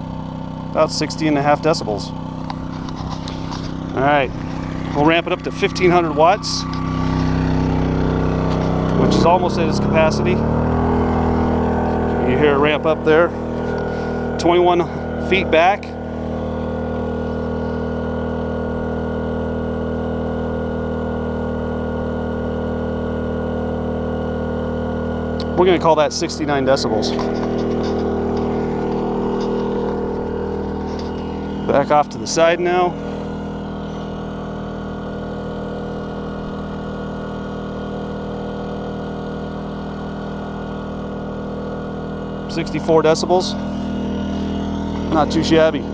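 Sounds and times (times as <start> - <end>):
generator running at high speed: 0.0 - 45.9.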